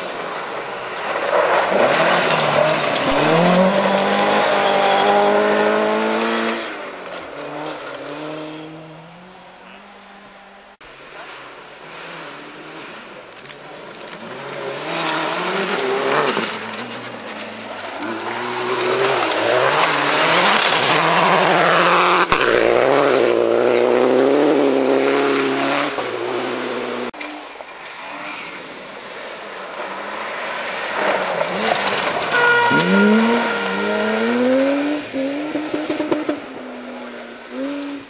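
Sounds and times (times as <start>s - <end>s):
rally car engines at full throttle: 0.0s - 38.0s.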